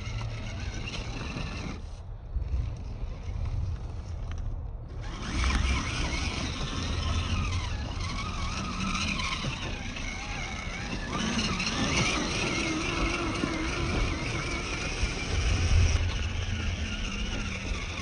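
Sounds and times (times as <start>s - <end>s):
toy truck motor whining: 0.0s - 18.0s
tyres grinding on gravel: 0.0s - 18.0s.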